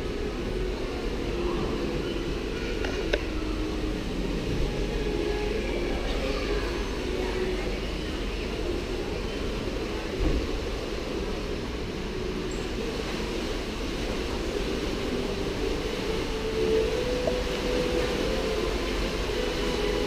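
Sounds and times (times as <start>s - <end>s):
faint distant voices: 0.0s - 20.0s
low hum and rumble: 0.0s - 20.0s.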